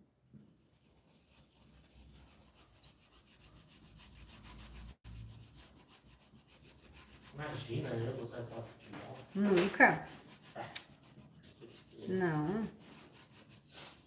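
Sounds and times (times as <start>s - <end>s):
paintbrush scrubbing over stencil: 0.3s - 14.0s.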